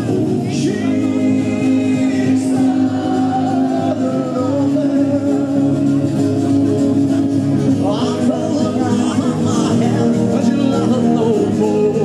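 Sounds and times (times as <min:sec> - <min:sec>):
person singing: 0:00.0 - 0:06.8, 0:07.8 - 0:12.0
guitar: 0:00.0 - 0:12.0
sustained backing notes: 0:00.0 - 0:12.0.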